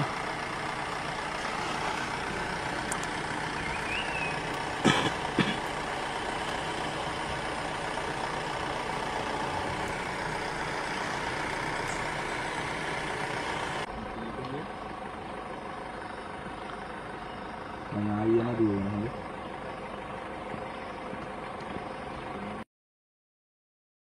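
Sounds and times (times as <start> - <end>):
jeep engines idling: 0.0 - 22.6.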